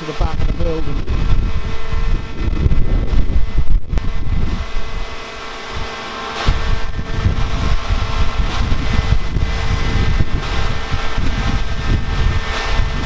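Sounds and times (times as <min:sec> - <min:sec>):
concrete mixer truck engine hum: 0:00.0 - 0:13.0
wind buffeting microphone: 0:00.0 - 0:13.0.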